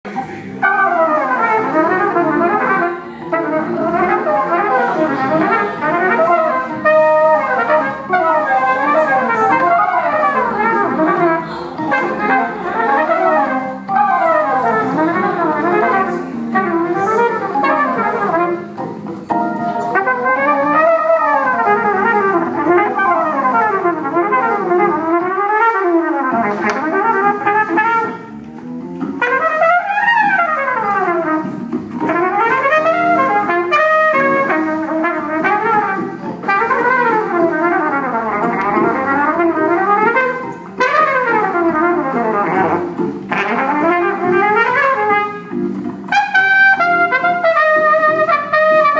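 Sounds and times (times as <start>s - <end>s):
trumpet playing quick phrases: 0.2s - 18.8s, 19.7s - 28.4s, 29.2s - 48.9s.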